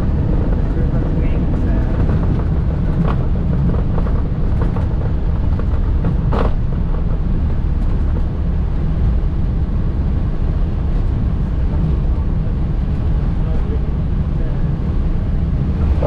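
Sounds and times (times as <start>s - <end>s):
airplane landing rumble: 0.0s - 16.0s.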